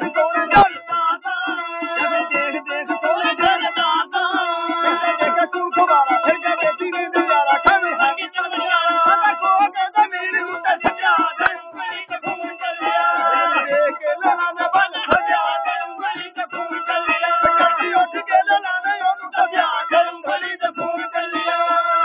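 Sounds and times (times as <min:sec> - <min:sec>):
folk singer singing: 0:00.0 - 0:22.0.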